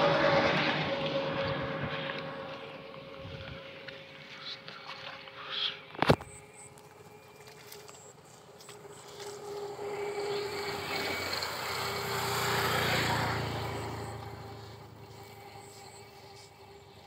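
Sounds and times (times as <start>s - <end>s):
passing engine: 0.0s - 17.0s.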